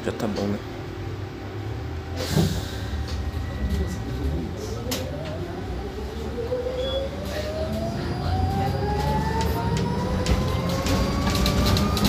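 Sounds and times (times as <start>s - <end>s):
low road rumble: 0.0s - 12.0s.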